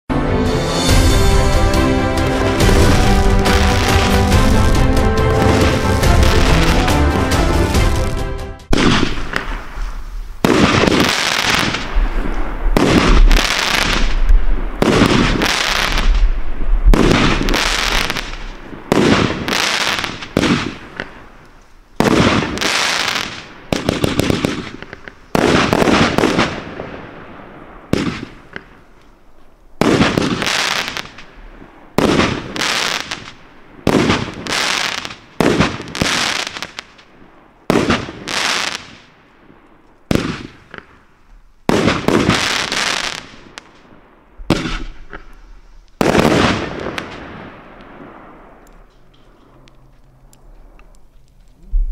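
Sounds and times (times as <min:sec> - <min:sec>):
fireworks bangs: 0:00.7 - 0:50.8.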